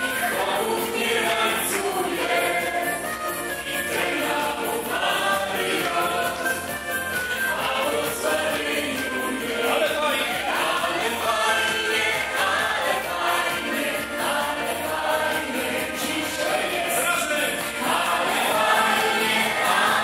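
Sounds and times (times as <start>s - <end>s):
amplified musical accompaniment: 0.0s - 20.0s.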